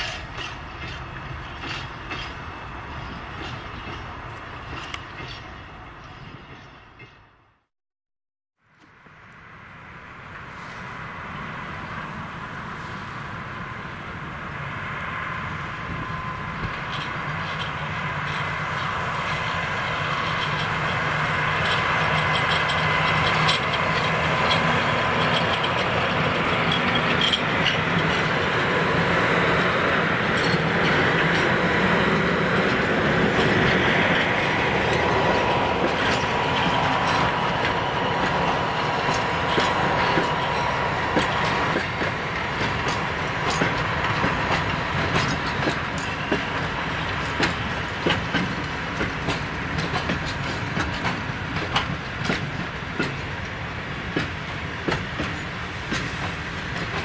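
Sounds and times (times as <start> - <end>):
train wheels clacking over rail joints: 0.0 - 5.6, 16.6 - 57.0.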